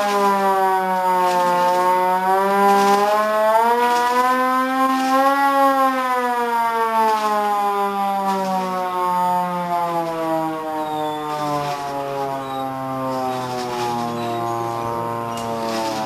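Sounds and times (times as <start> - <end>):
sliding droning tone: 0.0 - 16.0.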